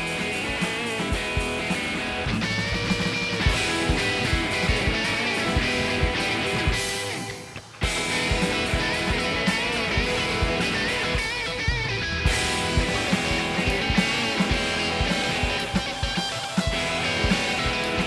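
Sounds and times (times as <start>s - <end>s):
drum kit beat: 0.0s - 18.0s
strummed electric guitar: 0.0s - 18.0s.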